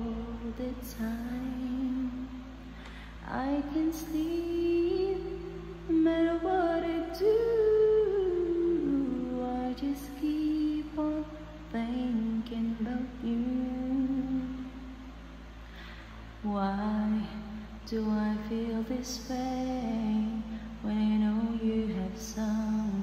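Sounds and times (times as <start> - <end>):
woman singing wordless melody: 0.0 - 23.0.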